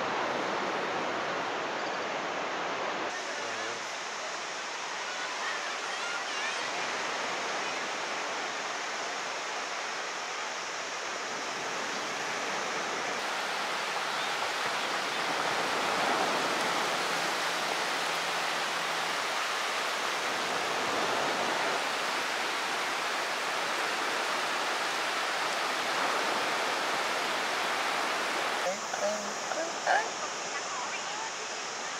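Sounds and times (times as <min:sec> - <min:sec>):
small waves washing on shore: 0:00.0 - 0:31.9.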